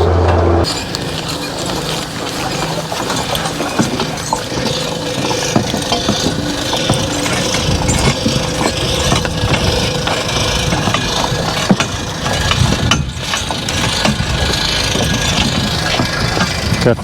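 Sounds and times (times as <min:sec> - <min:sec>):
horse-drawn cart rattling and clanking: 0:00.0 - 0:17.0.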